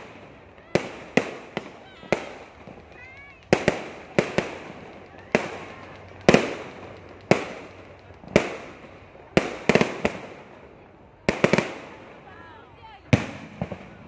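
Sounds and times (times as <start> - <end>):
fireworks bangs echoing: 0.0 - 14.0.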